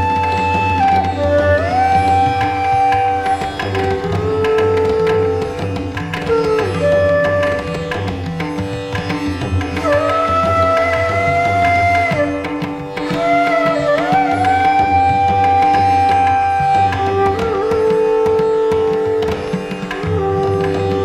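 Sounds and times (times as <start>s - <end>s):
tabla-like drum rhythm: 0.0s - 21.0s.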